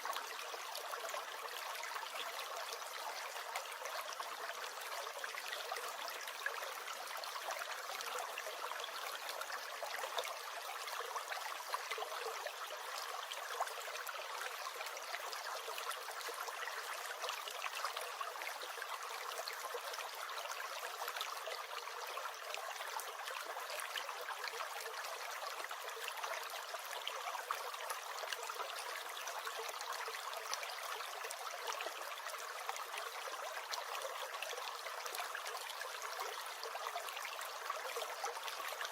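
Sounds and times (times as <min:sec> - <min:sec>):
brook gurgling and trickling: 0:00.0 - 0:38.9.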